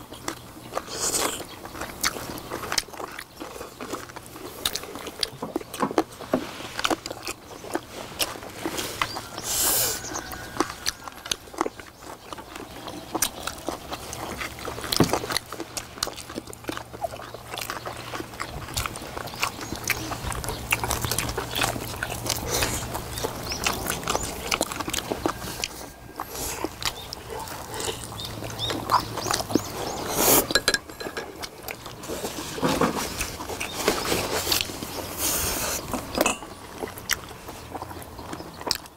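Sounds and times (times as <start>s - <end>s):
chewing and mouth smacking: 0.0s - 38.9s.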